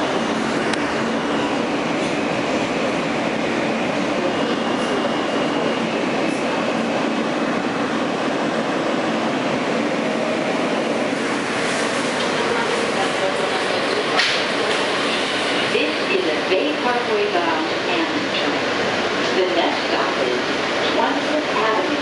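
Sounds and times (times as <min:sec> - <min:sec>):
subway train wheels rumbling on rail: 0:00.0 - 0:22.0.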